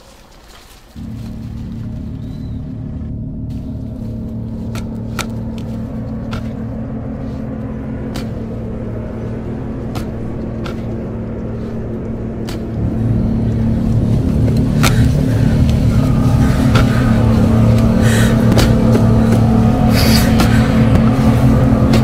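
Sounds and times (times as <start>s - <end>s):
low droning rumble: 0.7s - 22.0s.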